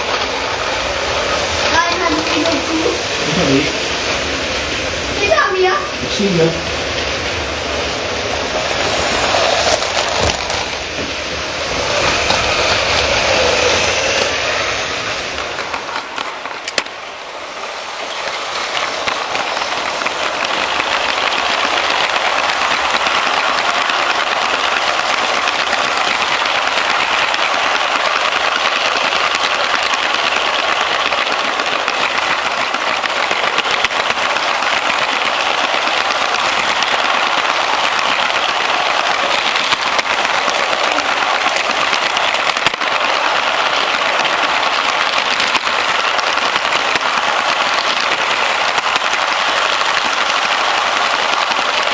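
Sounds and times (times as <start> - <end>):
toy train clattering on track: 0.0 - 3.1, 8.9 - 17.0, 18.1 - 51.9.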